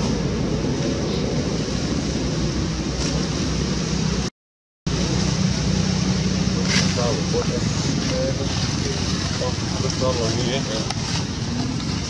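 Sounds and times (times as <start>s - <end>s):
steady outdoor background roar: 0.0s - 4.3s, 4.9s - 12.0s.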